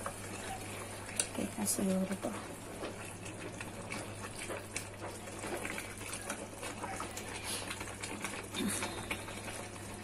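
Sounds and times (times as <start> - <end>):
water boiling and bubbling: 0.0 - 10.0.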